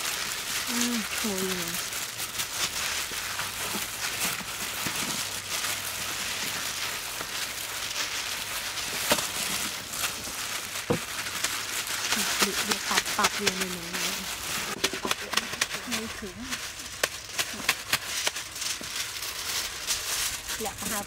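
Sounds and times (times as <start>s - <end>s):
plastic gloves crinkling: 0.0s - 21.0s.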